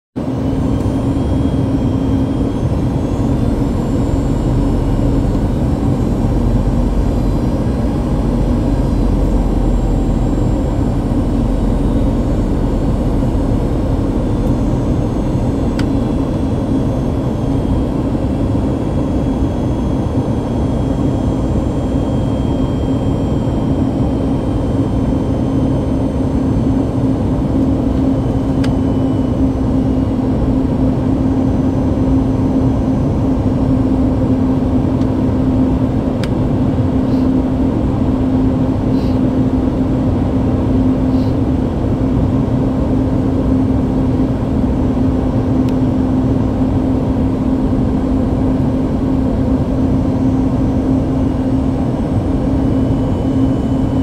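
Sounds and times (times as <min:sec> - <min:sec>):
airplane cabin drone: 0:00.2 - 0:54.0.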